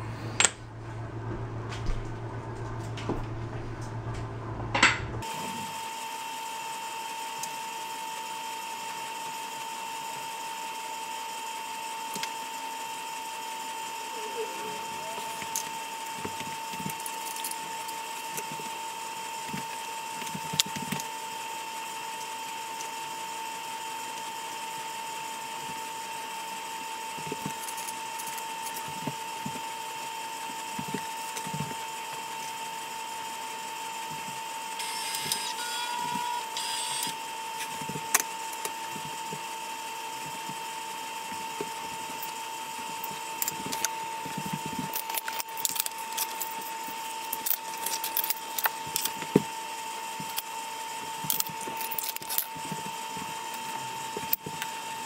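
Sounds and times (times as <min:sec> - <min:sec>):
steady high hum: 0:00.0 - 0:10.6, 0:12.2 - 0:55.0.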